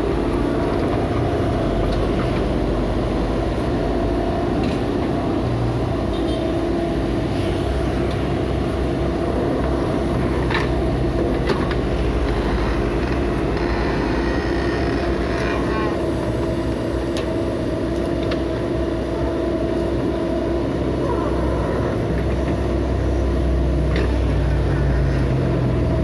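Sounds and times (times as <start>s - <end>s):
heavy machinery diesel engine: 0.0s - 26.0s.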